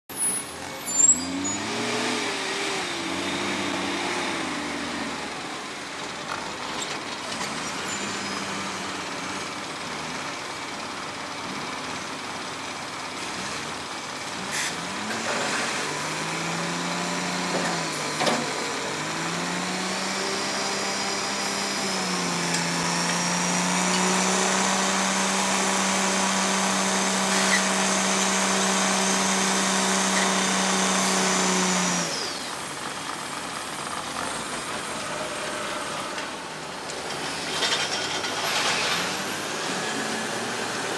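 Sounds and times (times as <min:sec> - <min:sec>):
diesel engine revving: 0:00.3 - 0:40.9.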